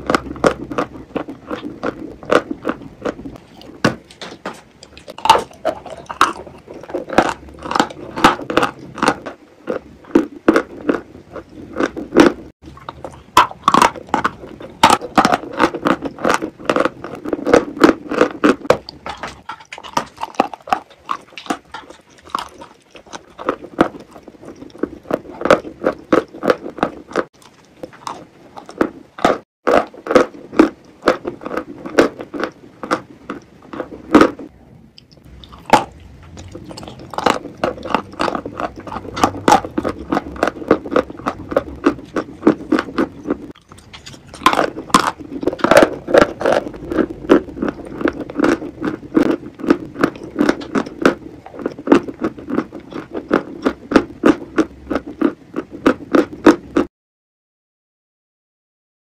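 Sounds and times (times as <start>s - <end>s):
biting and chewing soft food: 0.0s - 56.9s.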